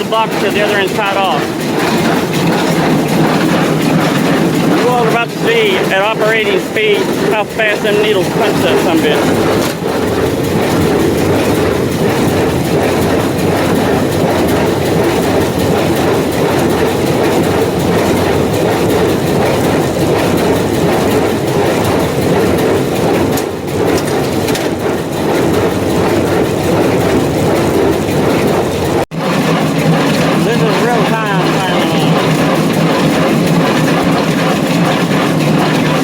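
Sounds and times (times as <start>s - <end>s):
square baler clattering: 0.0s - 36.0s.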